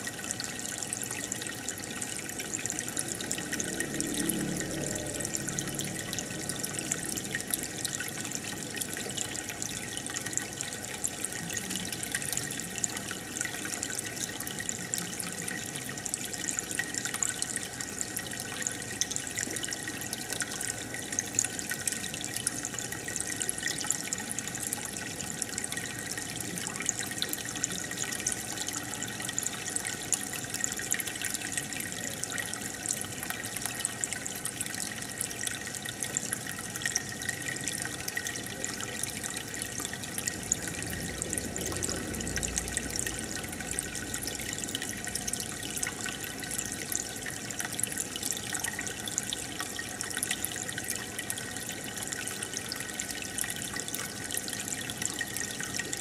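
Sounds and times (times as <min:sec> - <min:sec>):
aquarium water bubbling: 0:00.0 - 0:56.0.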